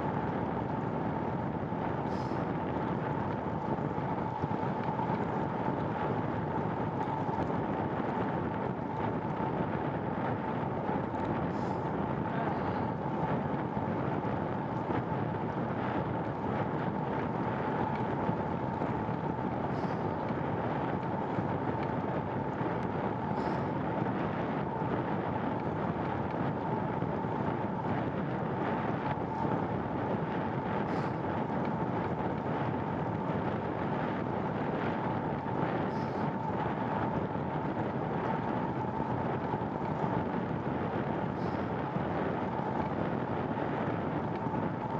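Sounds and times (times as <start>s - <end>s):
constant high hum: 0.0s - 44.9s
wind rush on microphone: 0.0s - 44.9s.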